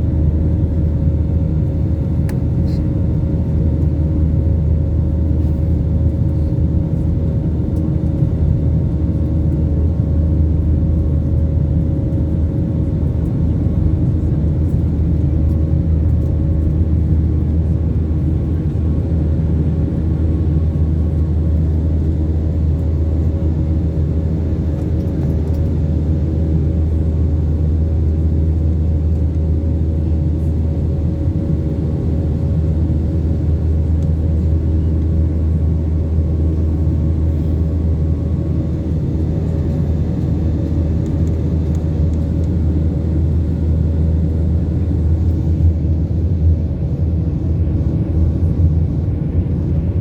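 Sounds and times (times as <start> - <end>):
aircraft engine and airflow rumble: 0.0 - 50.0
faint constant drone: 0.0 - 50.0.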